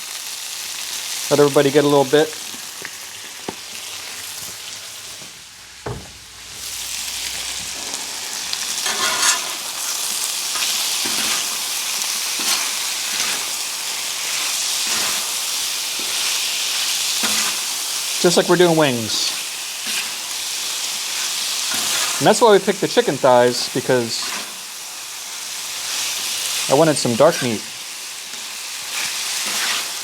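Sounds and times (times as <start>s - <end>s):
chicken sizzling on a griddle: 0.0s - 30.0s.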